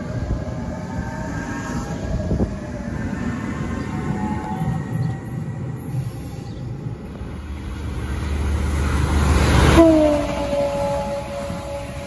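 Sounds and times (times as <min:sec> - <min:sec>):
electric railcar rumble: 0:00.0 - 0:12.0.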